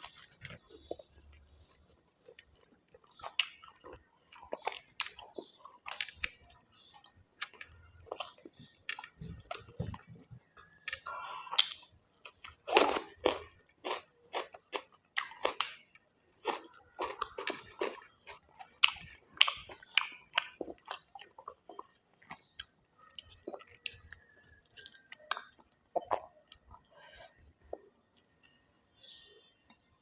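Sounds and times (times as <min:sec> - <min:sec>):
food crunches: 0:00.0 - 0:11.0, 0:11.6 - 0:26.7
close-miked chewing: 0:00.0 - 0:30.0.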